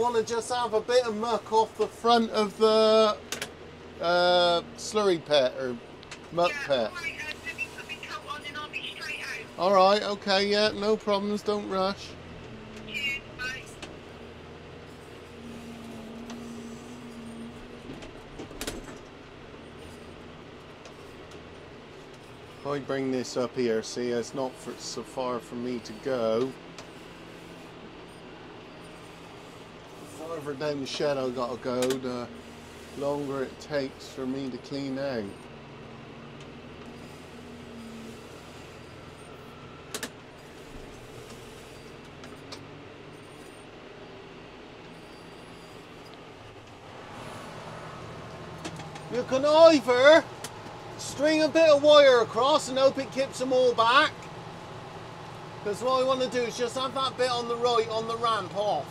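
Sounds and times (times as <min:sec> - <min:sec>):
steady whine: 0:00.0 - 0:58.9
tractor engine running: 0:00.0 - 0:58.9.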